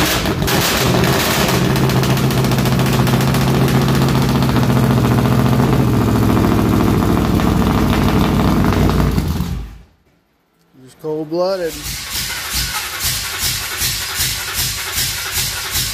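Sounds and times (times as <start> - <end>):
car engine idling loudly: 0.0 - 9.7, 11.7 - 15.9.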